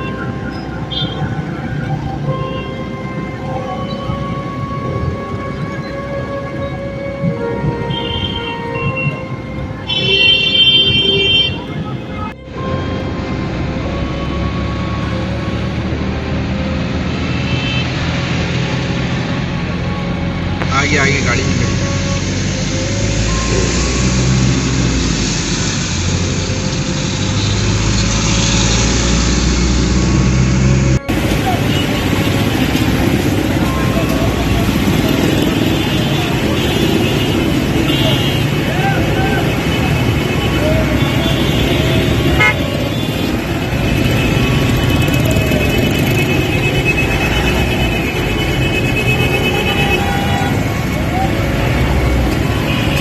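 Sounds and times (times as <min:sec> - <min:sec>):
vehicle engine humming: 0:00.0 - 0:53.0.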